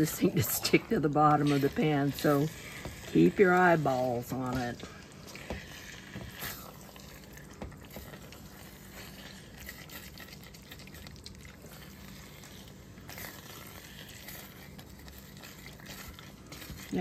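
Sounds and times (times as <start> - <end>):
spatula scraping a frying pan: 0.0 - 10.4, 11.6 - 17.0
faint sizzle: 0.0 - 17.0
sauce simmering: 0.0 - 17.0.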